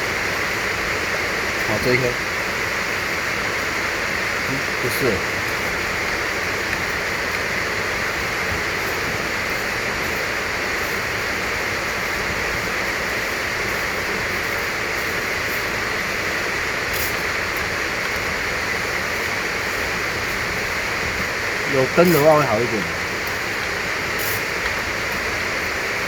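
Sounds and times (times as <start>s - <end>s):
steady rushing hiss: 0.0s - 26.0s.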